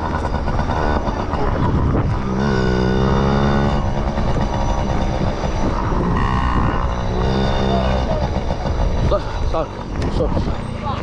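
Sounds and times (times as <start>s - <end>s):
two-stroke dirt bike engine: 0.0s - 11.0s.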